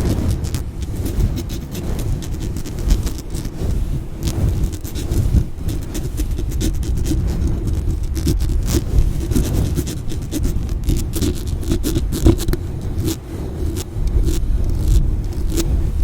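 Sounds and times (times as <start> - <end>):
handling noise rumble: 0.0 - 16.0
scratching on microphone: 0.0 - 16.0.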